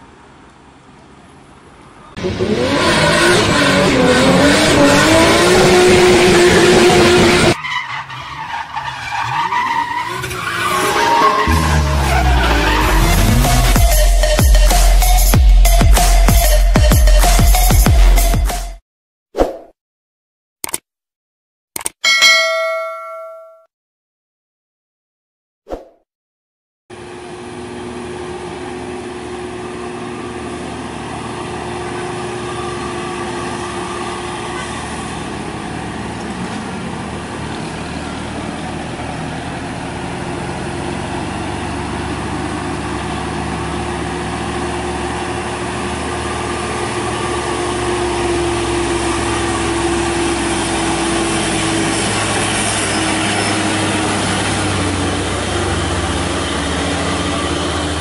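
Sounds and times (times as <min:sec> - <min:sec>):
truck diesel engines running: 0:00.0 - 0:17.6, 0:26.9 - 0:58.0.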